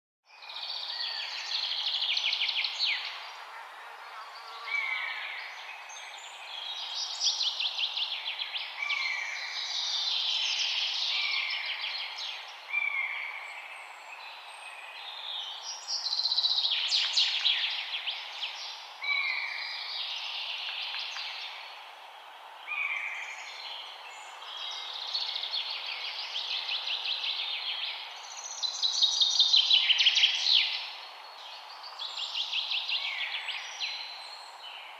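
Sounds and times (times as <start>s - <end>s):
faint background hiss: 0.4s - 34.9s.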